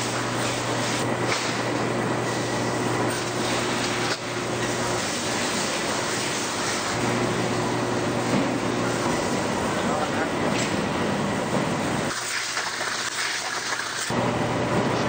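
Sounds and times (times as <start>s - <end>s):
machine low hum: 0.0s - 12.1s.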